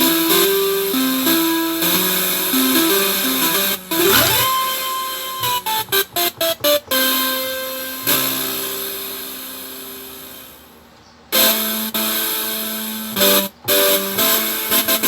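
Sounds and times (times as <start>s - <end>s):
keyboard notes and chords: 0.0s - 10.8s, 11.4s - 15.0s.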